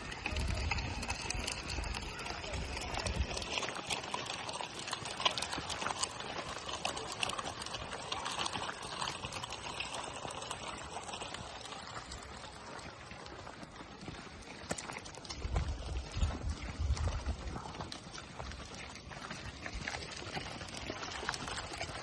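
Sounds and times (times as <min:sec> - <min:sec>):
footsteps crunching on path: 0:00.0 - 0:22.0.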